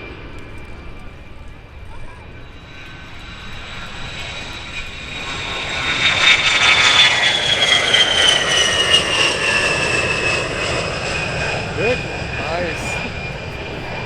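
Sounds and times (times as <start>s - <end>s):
aircraft flying past: 0.0s - 14.0s.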